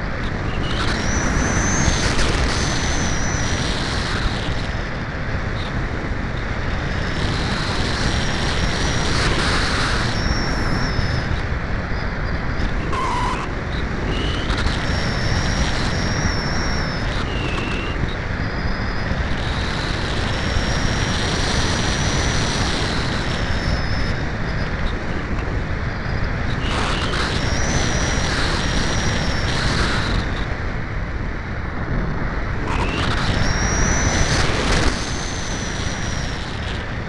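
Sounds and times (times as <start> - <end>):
thin high whines: 0.0 - 37.0
wind rushing over microphone: 0.0 - 37.0.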